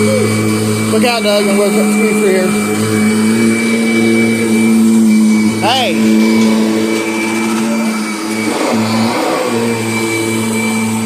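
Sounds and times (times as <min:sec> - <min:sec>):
thin high tone: 0:00.0 - 0:11.0
vacuum cleaner motor running: 0:00.0 - 0:11.0.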